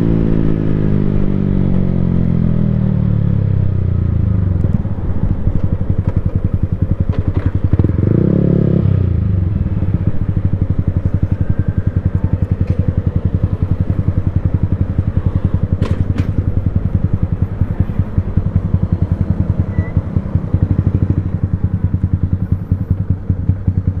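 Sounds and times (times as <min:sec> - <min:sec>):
motorcycle engine revving and idling: 0:00.0 - 0:24.0.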